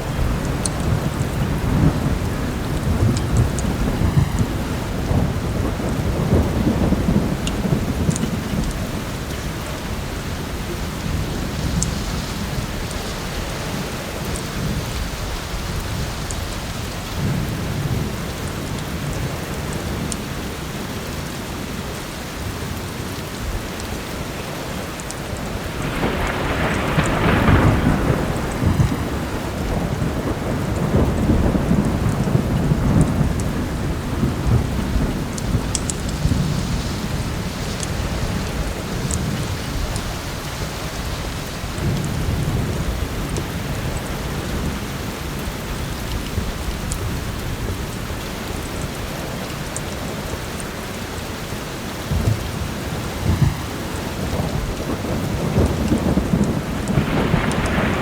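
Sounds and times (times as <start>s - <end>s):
low rolling thunder: 0.0s - 20.6s, 24.8s - 58.0s
heavy rain: 0.0s - 58.0s.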